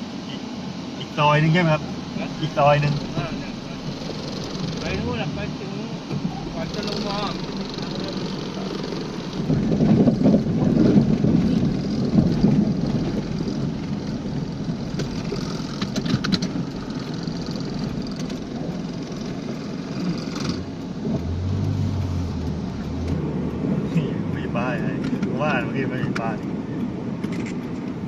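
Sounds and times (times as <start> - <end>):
car engine and tyre noise: 0.0 - 28.0
low hum: 1.6 - 25.1.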